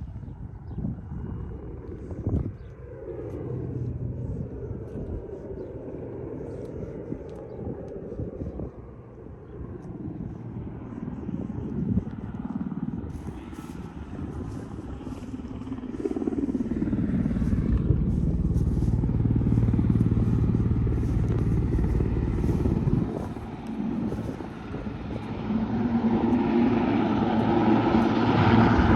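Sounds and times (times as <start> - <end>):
twin-engine aircraft running: 0.0 - 28.9.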